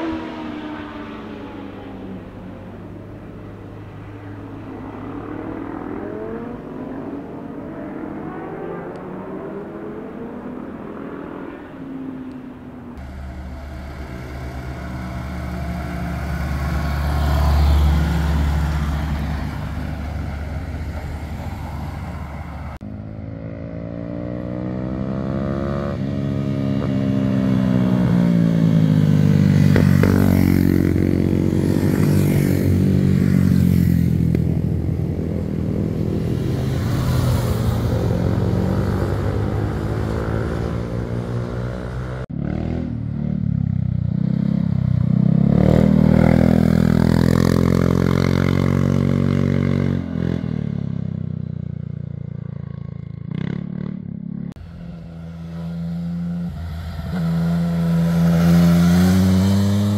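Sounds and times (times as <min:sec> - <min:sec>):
motorcycles accelerating past: 0:00.0 - 0:59.9
vehicle passing with low rumble: 0:00.0 - 0:59.9.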